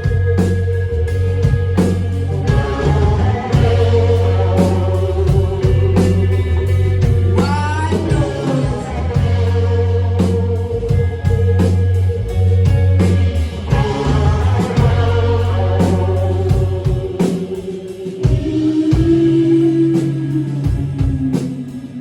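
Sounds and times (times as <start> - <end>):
deep bass: 0.0 - 22.0
guitar: 0.0 - 22.0.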